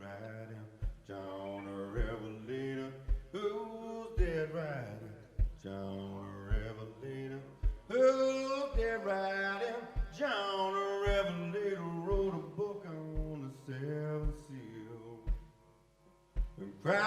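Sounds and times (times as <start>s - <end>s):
man singing long notes: 0.0s - 15.3s, 16.6s - 17.0s
low thudding beat: 0.0s - 15.6s, 16.4s - 16.9s.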